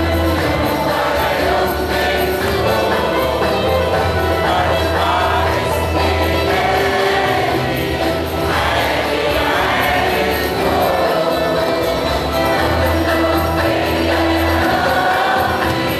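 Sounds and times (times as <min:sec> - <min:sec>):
choir singing a hymn: 0:00.0 - 0:15.9
instrumental accompaniment: 0:00.0 - 0:15.9.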